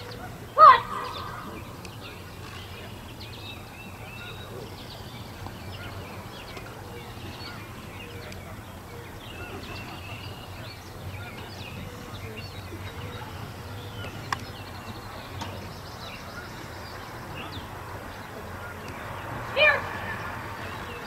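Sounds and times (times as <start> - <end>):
low outdoor hum: 0.0 - 21.0
small birds chirping: 0.0 - 21.0.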